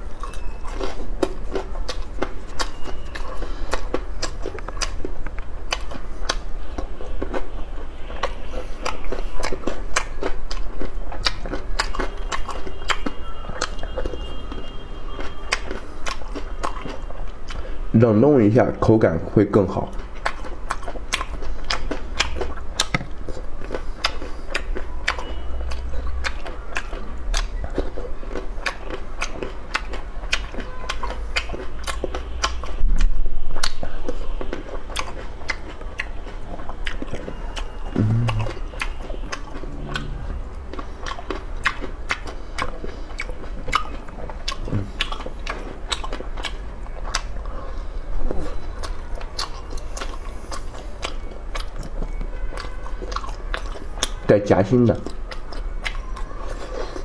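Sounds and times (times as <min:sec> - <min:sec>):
person chewing food: 0:00.0 - 0:17.9, 0:19.9 - 0:54.3, 0:55.0 - 0:57.0.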